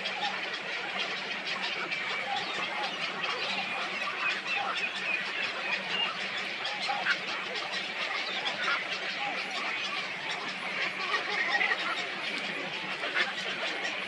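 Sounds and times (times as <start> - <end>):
chorus of birds chirping: 0.0 - 14.0.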